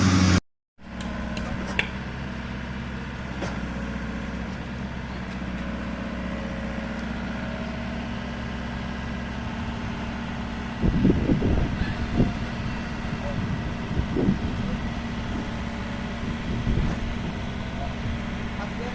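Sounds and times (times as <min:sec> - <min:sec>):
excavator engine idling: 0:00.0 - 0:18.9.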